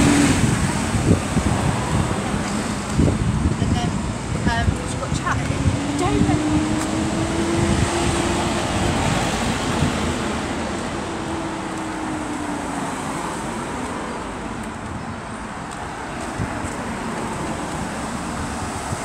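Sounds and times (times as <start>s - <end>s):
cars driving past: 0.0s - 19.0s
wind buffeting microphone: 0.0s - 19.0s.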